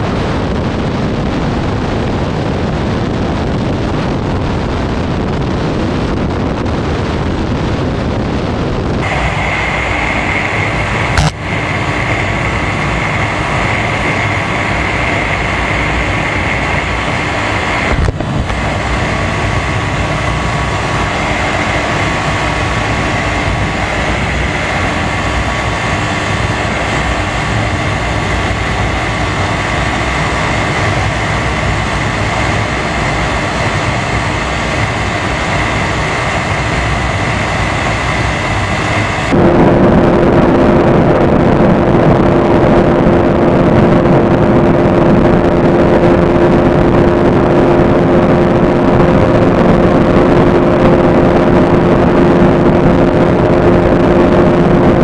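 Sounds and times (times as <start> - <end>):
high engine whine: 0.0 - 55.0
motorcycle engine at speed: 0.0 - 55.0
wind rushing over microphone: 0.0 - 55.0.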